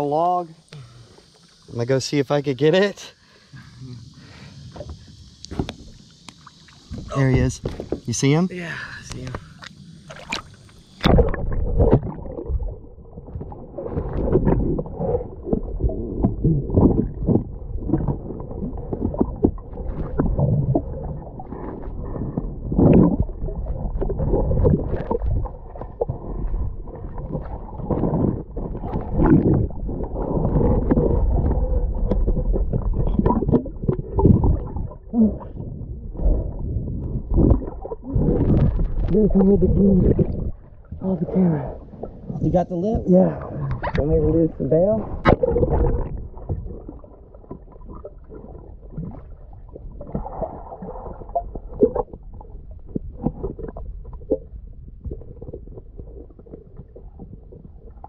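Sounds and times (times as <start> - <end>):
muffled underwater sloshing water: 0.0 - 58.0
dull knocks underwater: 6.9 - 8.1, 10.1 - 41.0, 41.9 - 44.4, 45.0 - 58.0.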